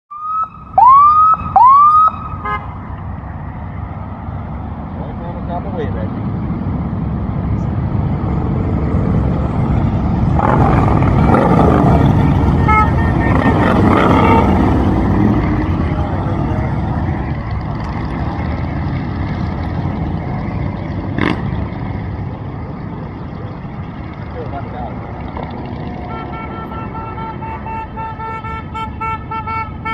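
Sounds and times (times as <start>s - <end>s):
motorcycle engines running: 2.2s - 28.8s.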